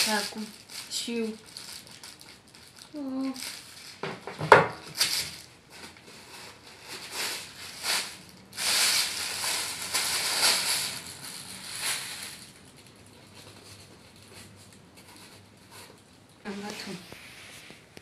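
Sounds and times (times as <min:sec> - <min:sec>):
tissue paper crinkling: 0:00.0 - 0:04.0, 0:04.8 - 0:18.0.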